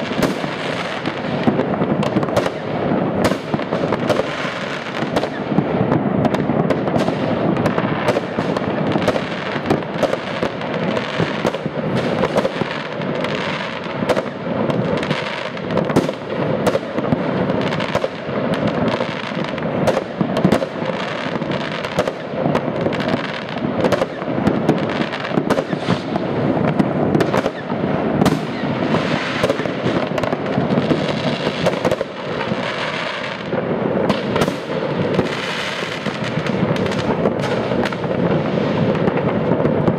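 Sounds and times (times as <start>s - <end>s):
fireworks and firecrackers: 0.0s - 39.9s.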